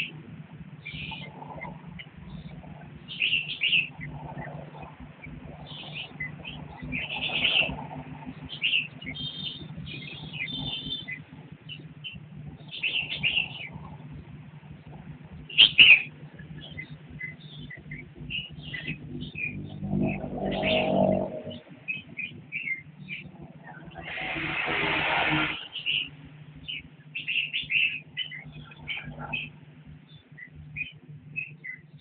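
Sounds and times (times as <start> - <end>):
birds chirping: 0.0 - 32.0
steady low hum: 0.0 - 32.0.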